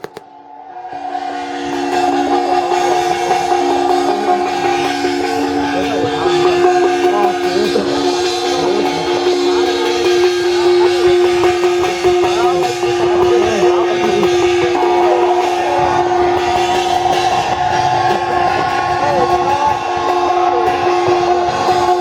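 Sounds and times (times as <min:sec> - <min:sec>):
percussion: 0:00.0 - 0:00.4, 0:01.6 - 0:22.0.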